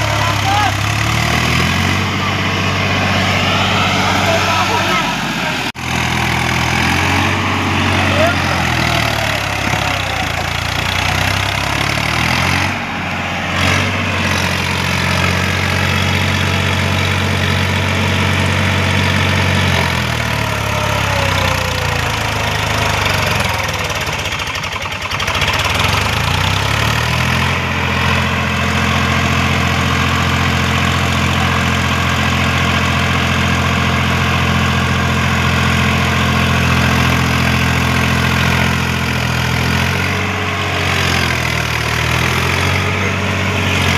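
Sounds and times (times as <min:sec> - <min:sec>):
tractor diesel engine under load: 0:00.0 - 0:43.9.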